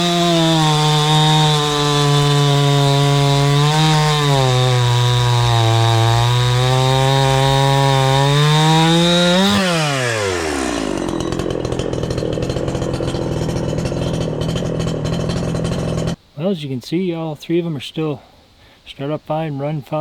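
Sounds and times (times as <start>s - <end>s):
chainsaw engine cutting: 0.0s - 16.2s
chainsaw winding down: 0.0s - 16.2s.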